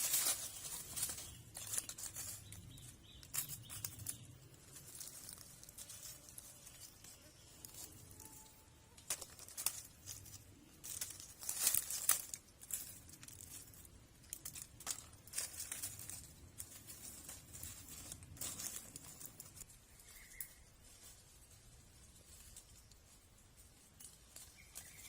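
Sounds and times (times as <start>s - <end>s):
dry plant material crackling: 0.0s - 25.0s.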